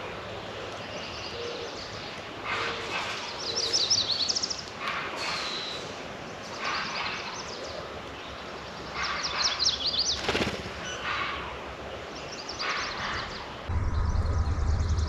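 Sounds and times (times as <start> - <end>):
outdoor background hiss: 0.0 - 13.7
songbird singing: 0.0 - 15.0.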